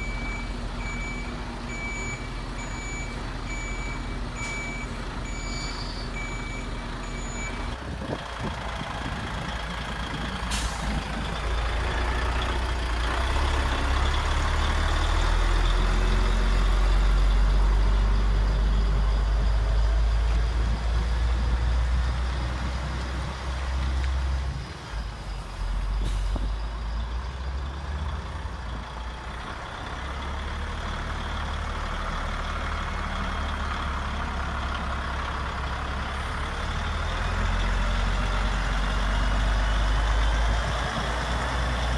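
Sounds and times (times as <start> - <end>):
simulated diesel engine rumble: 0.0 - 41.9.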